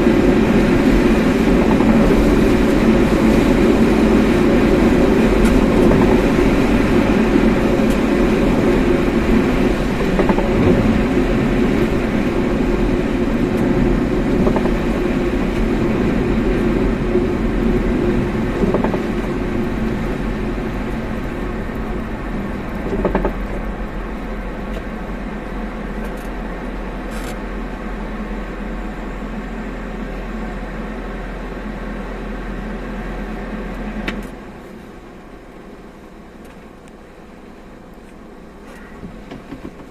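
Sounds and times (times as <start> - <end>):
car engine drone: 0.0 - 39.9
tyre road noise: 0.0 - 39.9.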